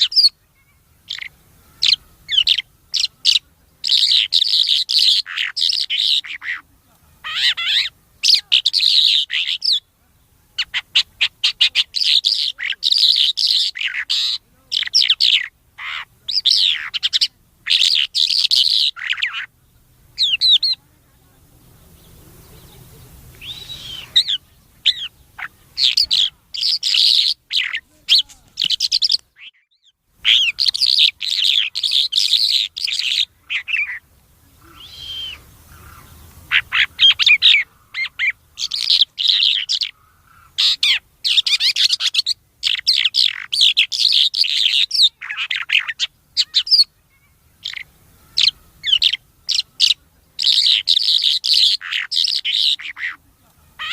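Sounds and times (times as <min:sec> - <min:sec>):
songbird twittering and trilling: 0:00.0 - 0:53.9.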